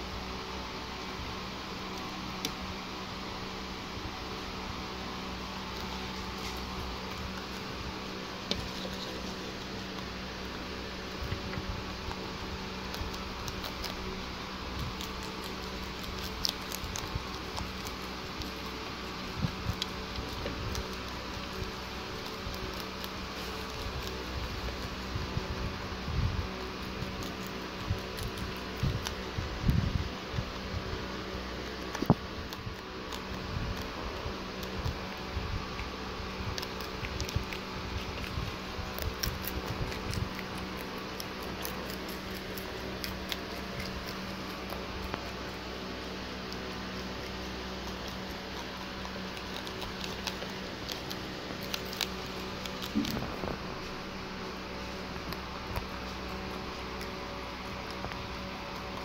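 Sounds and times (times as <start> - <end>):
rabbits chewing and nibbling: 0.0 - 59.0
steady background hum: 0.0 - 59.0.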